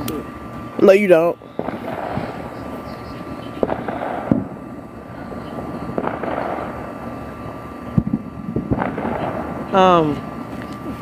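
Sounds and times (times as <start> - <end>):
steady hiss: 0.0 - 11.0
fireworks bangs: 1.5 - 11.0.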